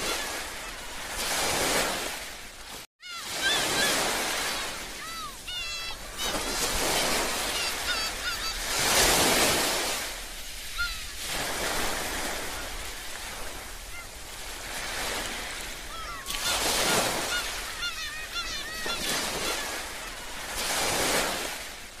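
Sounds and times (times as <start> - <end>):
gulls calling: 0.0 - 2.0, 3.0 - 21.6
surf washing in: 0.0 - 22.0.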